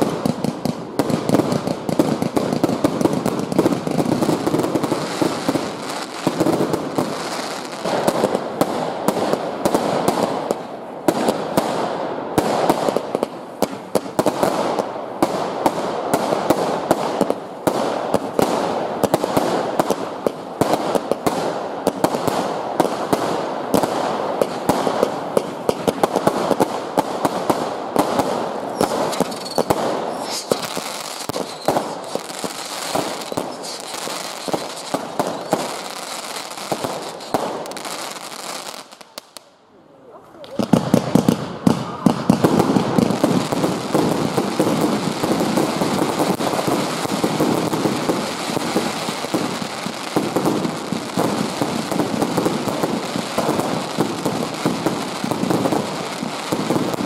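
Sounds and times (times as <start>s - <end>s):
fireworks bangs and crackling: 0.0s - 39.6s, 40.4s - 57.0s.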